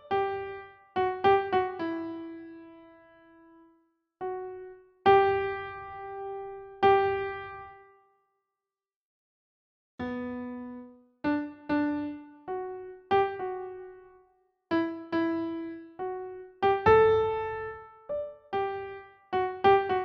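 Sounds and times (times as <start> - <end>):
gentle keyboard melody: 0.0 - 8.0, 10.0 - 20.0.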